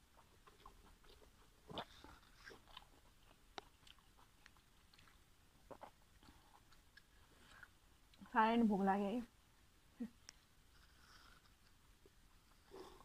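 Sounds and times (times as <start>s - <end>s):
faint chewing mouth clicks: 0.0s - 8.3s, 10.2s - 13.0s.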